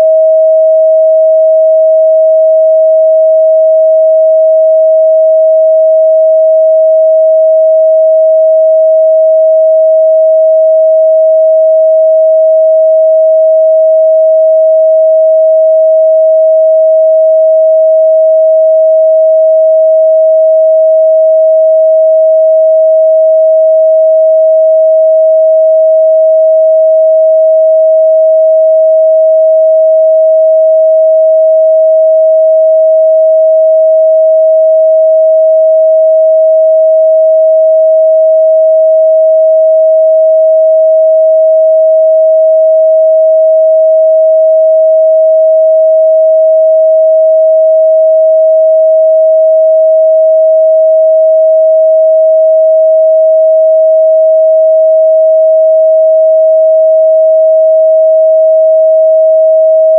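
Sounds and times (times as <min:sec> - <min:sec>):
sine wave test tone: 0:00.0 - 0:59.9.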